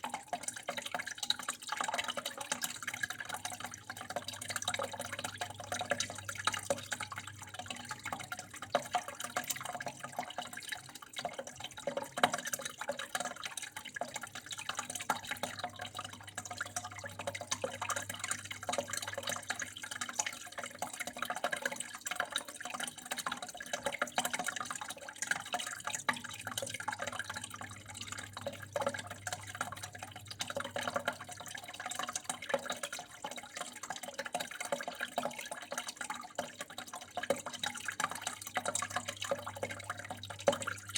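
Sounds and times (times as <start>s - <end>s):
water flowing and trickling: 0.0s - 40.9s.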